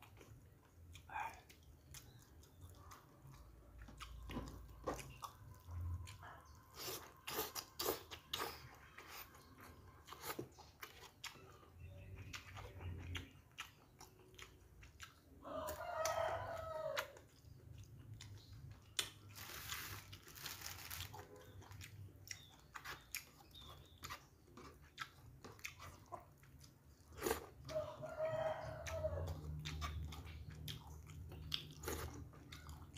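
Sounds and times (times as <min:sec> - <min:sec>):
chewing and crunching: 0:00.0 - 0:32.9.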